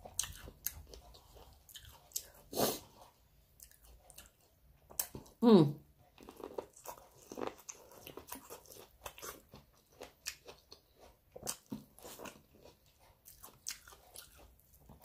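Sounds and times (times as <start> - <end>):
person chewing: 0.0 - 5.4, 6.0 - 15.0.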